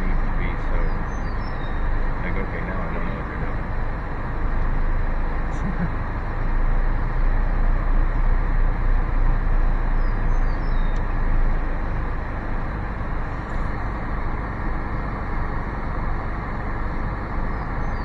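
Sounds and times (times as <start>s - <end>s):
car road and tyre noise: 0.0s - 18.0s.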